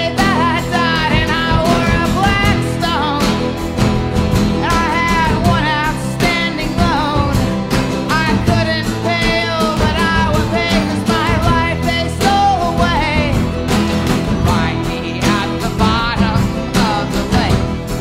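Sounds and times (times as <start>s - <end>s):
song with vocal guitar and drums: 0.0s - 18.0s.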